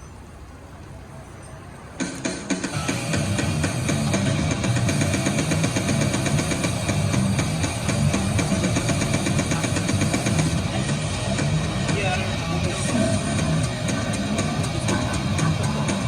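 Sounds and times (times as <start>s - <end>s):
fast percussive rattle: 2.0s - 16.0s
harsh distorted noise music: 2.0s - 16.0s.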